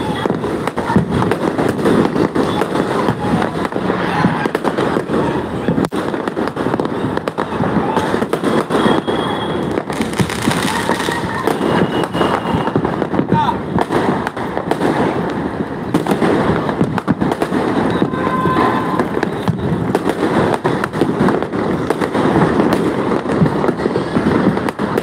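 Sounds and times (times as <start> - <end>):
firecrackers crackling and banging: 0.0 - 25.0
firework whistles: 0.0 - 25.0.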